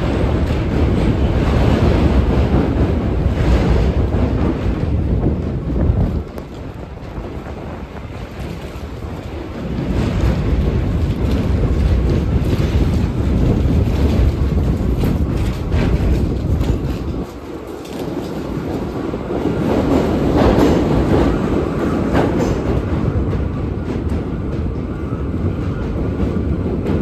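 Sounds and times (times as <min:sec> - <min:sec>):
subway train rumble: 0:00.0 - 0:27.0.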